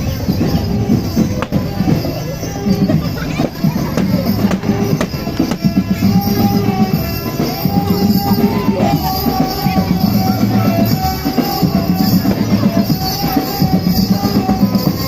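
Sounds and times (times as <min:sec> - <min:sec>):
drums beating: 0:00.0 - 0:15.0
held melody line: 0:00.0 - 0:15.0.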